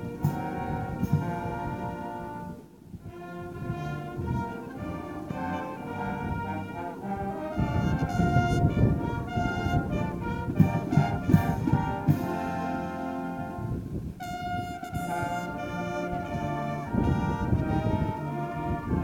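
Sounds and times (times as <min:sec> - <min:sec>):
brass band playing chords: 0:00.0 - 0:19.0.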